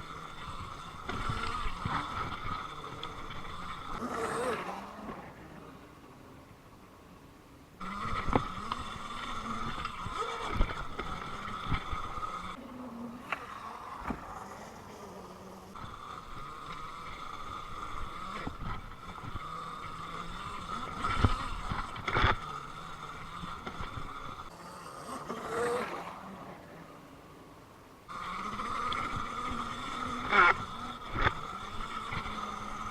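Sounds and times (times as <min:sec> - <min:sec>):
electric motor whining: 0:00.0 - 0:05.9, 0:07.8 - 0:27.0, 0:28.1 - 0:32.9.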